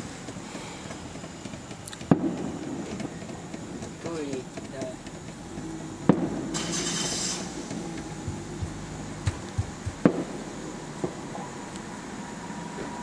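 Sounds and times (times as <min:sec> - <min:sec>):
soft fireworks thumps: 0:00.0 - 0:06.6, 0:07.6 - 0:11.5
distant fireworks bangs: 0:00.0 - 0:11.6.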